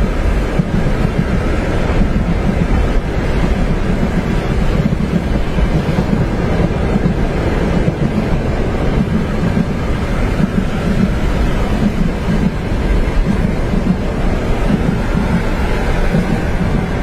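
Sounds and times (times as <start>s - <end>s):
train rumbling on tracks: 0.0s - 17.0s
wind noise: 0.0s - 17.0s.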